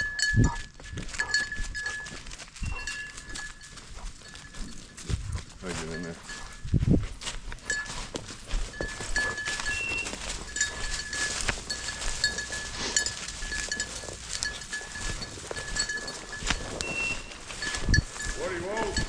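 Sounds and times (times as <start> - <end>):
footsteps through dry vegetation: 0.0 - 19.0
small bell jingling: 0.0 - 19.0.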